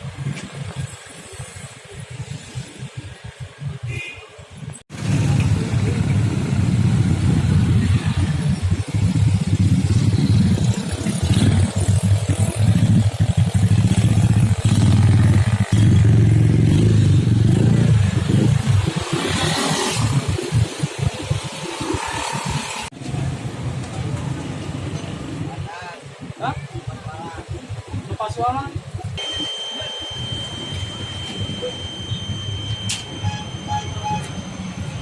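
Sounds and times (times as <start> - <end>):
road traffic passing close: 0.0 - 26.3, 28.8 - 35.0.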